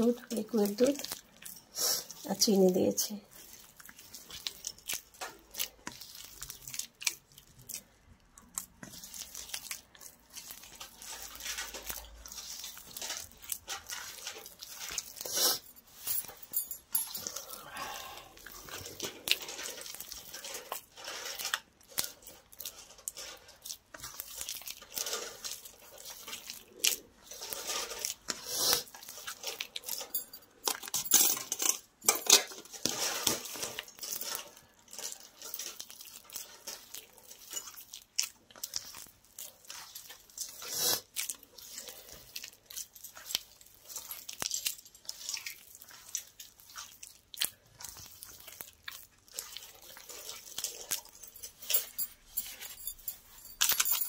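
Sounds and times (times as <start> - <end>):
hands squelching wet dough: 0.0 - 30.6, 32.7 - 54.0.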